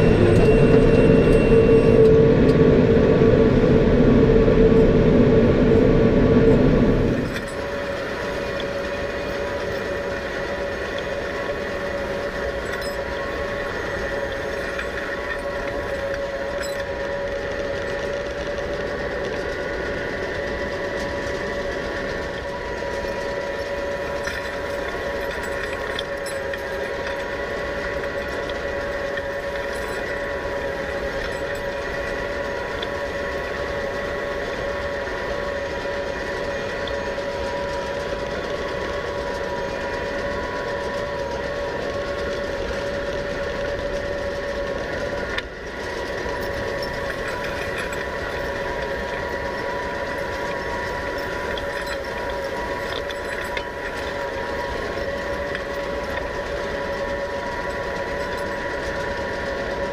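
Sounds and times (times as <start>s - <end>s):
baler machinery whine: 0.0s - 59.9s
tractor engine running: 0.0s - 59.9s.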